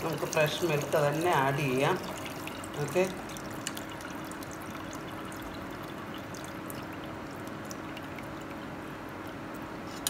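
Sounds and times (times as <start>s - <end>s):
milk pouring into a metal pot: 0.0s - 9.0s.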